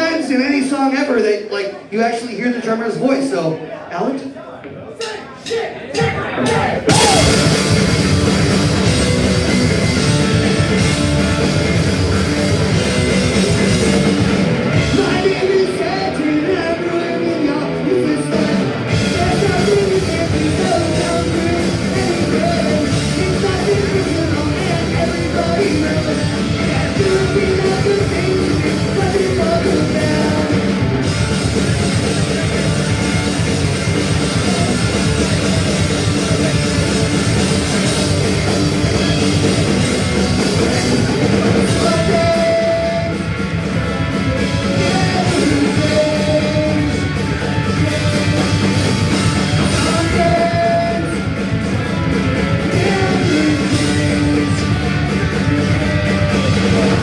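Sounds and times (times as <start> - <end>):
sung vocals: 3.1 - 57.0
punk rock band playing live: 5.4 - 57.0.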